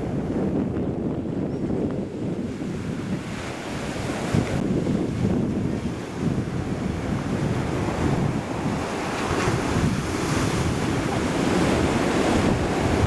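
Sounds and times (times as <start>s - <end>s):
waves breaking on shore: 0.0s - 13.0s
wind buffeting microphone: 0.0s - 13.0s.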